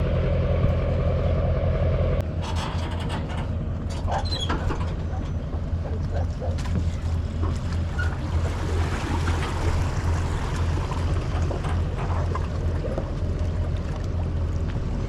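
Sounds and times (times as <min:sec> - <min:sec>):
boat motor running: 0:00.0 - 0:15.0
water noise: 0:00.0 - 0:15.0
light knocks and splashes: 0:02.9 - 0:15.0.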